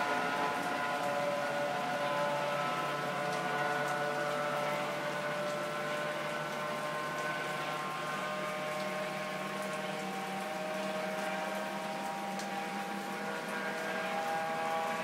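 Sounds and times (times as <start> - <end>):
helicopter engine and rotors droning: 0.0 - 15.0.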